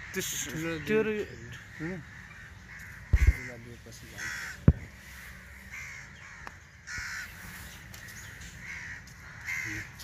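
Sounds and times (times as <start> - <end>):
crows cawing: 0.0 - 10.0.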